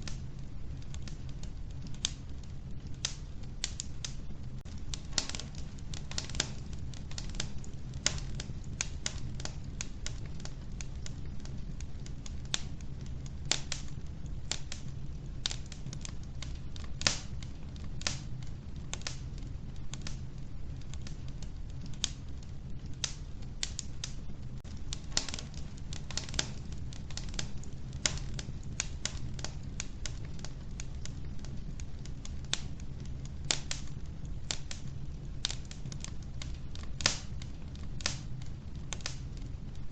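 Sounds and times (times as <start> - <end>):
low rumble of stove fire: 0.0 - 39.9
wood fire crackling and popping: 0.0 - 39.9.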